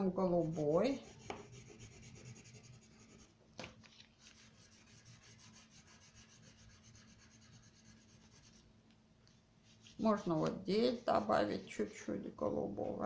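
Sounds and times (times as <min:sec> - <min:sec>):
crayon scratching on paper: 0:00.2 - 0:03.3, 0:04.2 - 0:08.6, 0:09.7 - 0:13.0.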